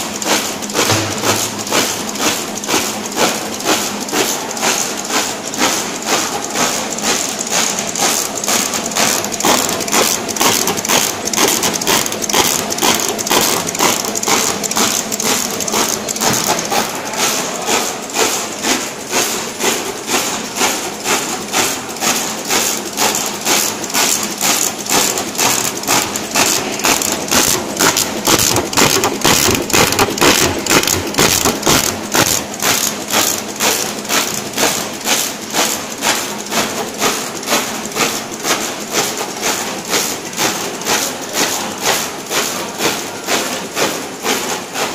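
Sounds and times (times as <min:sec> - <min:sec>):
label printer mechanical strokes: 0:00.2 - 0:44.9.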